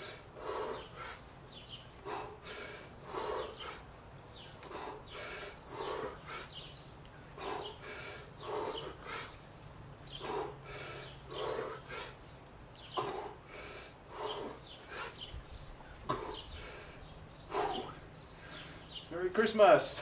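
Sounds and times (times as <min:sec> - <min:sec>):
man breathing hard: 0:00.0 - 0:19.0
birds chirping: 0:00.0 - 0:20.0.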